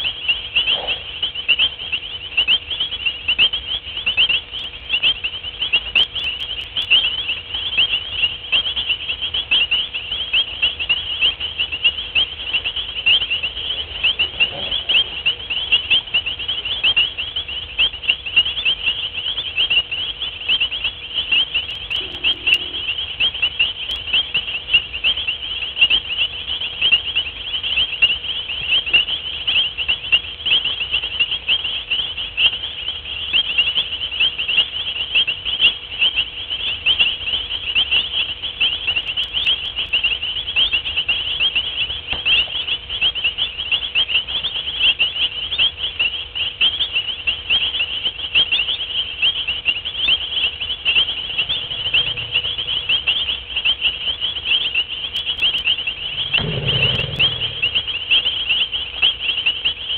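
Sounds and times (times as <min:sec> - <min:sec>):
night animals chirping: 0:00.0 - 0:59.9.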